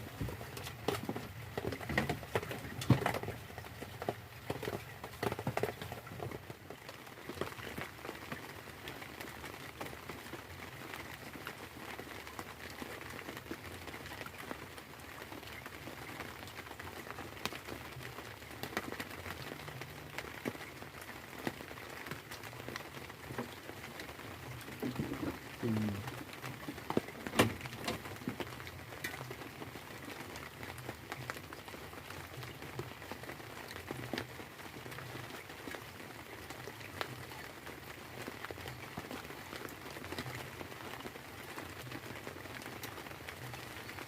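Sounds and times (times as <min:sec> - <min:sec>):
rain falling steadily: 0:00.0 - 0:44.0.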